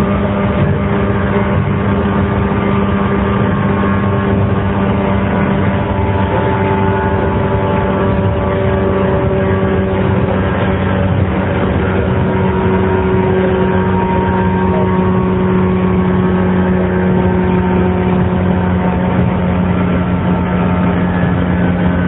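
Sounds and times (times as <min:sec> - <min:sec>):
wheels rumbling on rails: 0:00.0 - 0:22.0.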